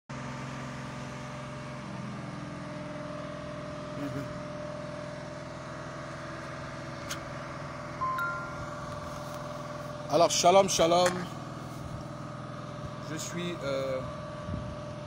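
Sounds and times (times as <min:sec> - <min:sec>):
engine hum: 0:00.1 - 0:15.0.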